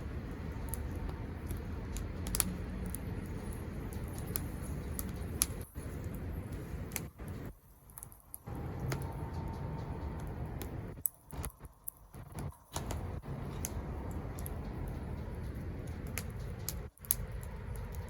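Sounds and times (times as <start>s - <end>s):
low steady rumble: 0.0s - 18.0s
wood fire crackling and popping: 0.0s - 18.0s.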